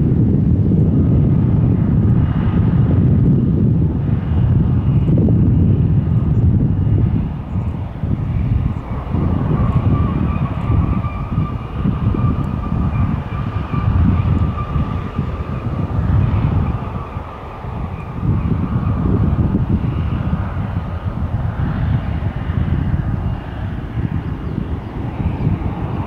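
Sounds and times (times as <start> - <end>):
aircraft engines high whine: 0.0 - 26.0
aircraft engines low rumble: 0.0 - 26.0.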